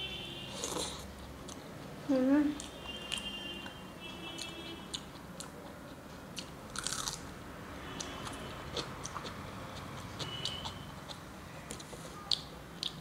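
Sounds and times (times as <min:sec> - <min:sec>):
person chewing food: 0:00.6 - 0:01.9, 0:02.6 - 0:07.3, 0:08.0 - 0:13.0.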